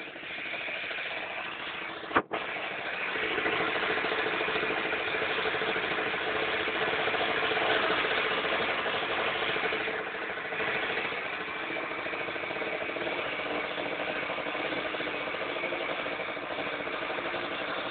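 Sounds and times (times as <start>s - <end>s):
scooter engine idling: 0.0s - 17.9s.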